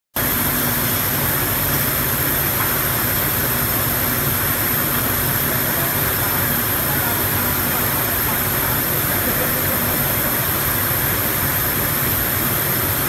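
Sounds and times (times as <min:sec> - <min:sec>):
factory machinery humming: 0:00.2 - 0:13.0.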